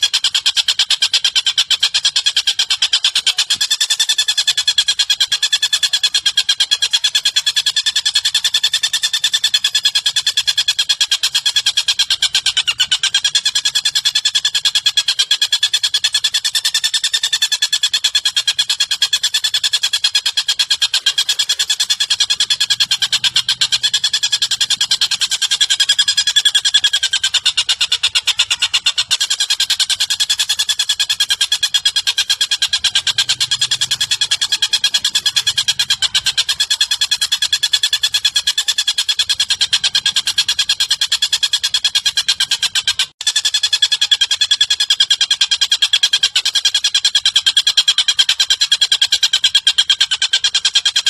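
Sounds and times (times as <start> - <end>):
bird trilling: 0.0 - 51.0.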